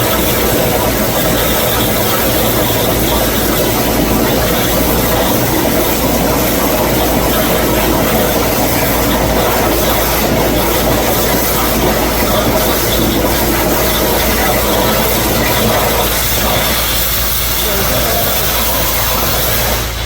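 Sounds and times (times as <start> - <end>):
low hum: 0.0 - 20.0
plasma torch cutting hiss: 0.0 - 20.0.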